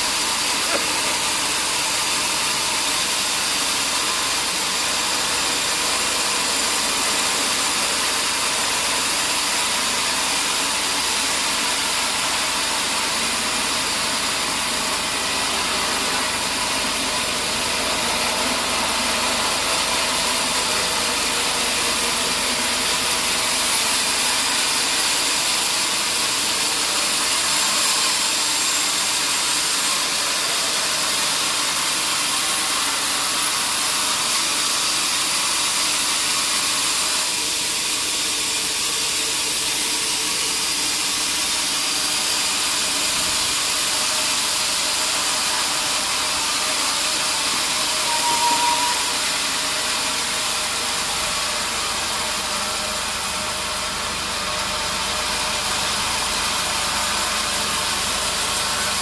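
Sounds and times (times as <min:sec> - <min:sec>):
sawmill saw hissing: 0:00.0 - 0:59.0.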